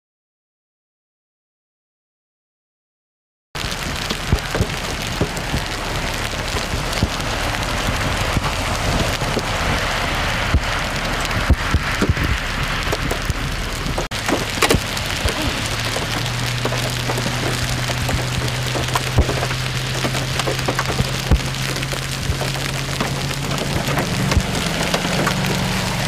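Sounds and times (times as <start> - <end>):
hail falling on pavement: 3.6 - 26.0.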